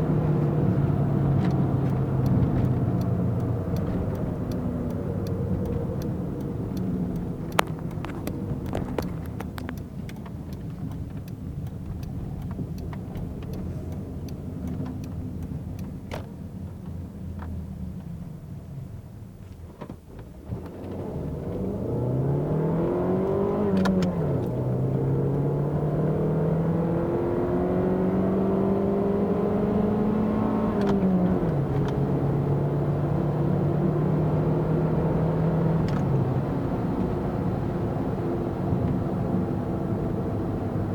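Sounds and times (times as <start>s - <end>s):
car engine accelerating: 0.0s - 19.0s, 20.1s - 40.9s.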